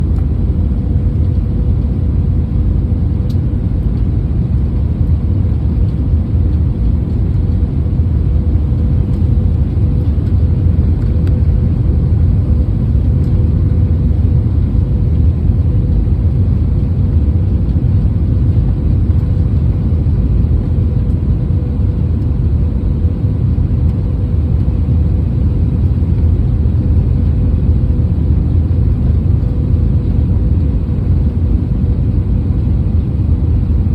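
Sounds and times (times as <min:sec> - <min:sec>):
constant hum: 0:00.0 - 0:33.9
low rumble of aircraft engines: 0:00.0 - 0:33.9.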